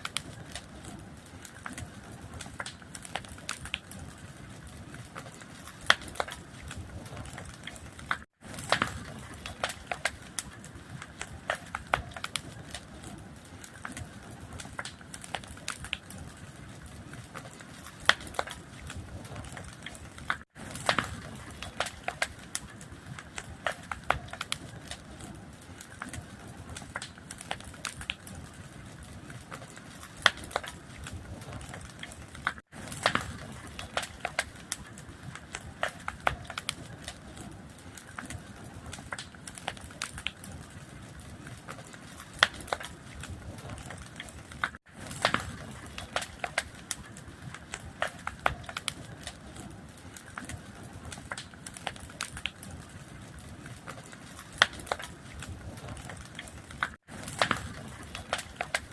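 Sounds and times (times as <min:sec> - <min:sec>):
fire crackling and popping: 0:00.0 - 0:58.9.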